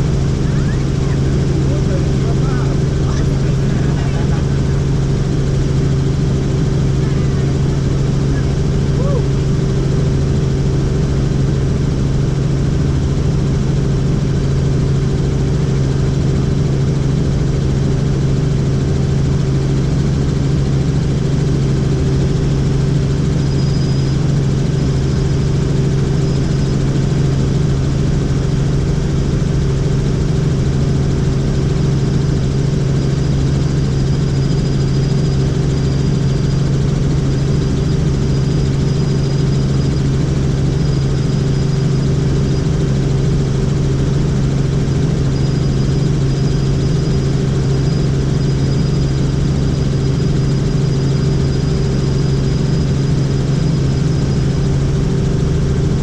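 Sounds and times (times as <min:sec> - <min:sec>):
faint high whine: 0:00.0 - 0:12.6, 0:20.4 - 0:56.0
helicopter rotor and engine drone: 0:00.0 - 0:56.0.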